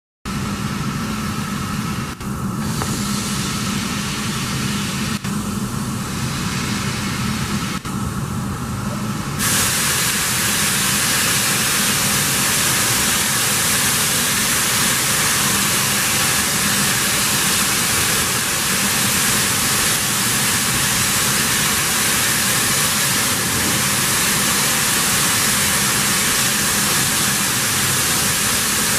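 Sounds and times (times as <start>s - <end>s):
steam locomotive hissing: 0.3s - 28.9s.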